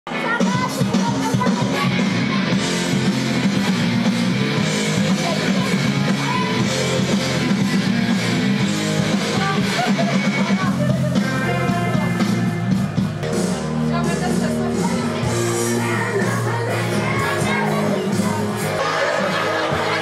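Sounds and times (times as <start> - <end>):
electric guitar: 0.1 - 20.0
rock band playing: 0.1 - 20.0.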